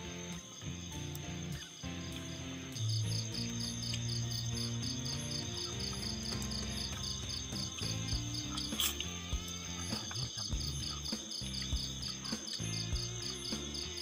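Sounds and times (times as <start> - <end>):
insects chirping: 0.0 - 14.0
soft music with low notes: 0.0 - 14.0.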